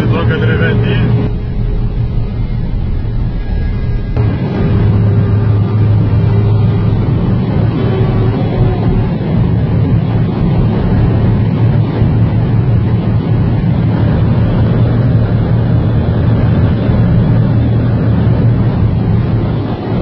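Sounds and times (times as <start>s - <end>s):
car engine drone: 0.0s - 20.0s
road and wind noise: 0.0s - 20.0s.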